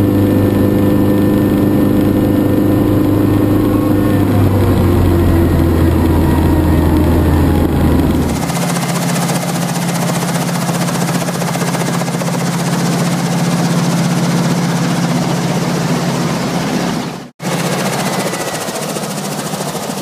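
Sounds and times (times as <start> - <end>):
helicopter engine drone: 0.0 - 20.0
helicopter rotor rushing: 0.0 - 20.0.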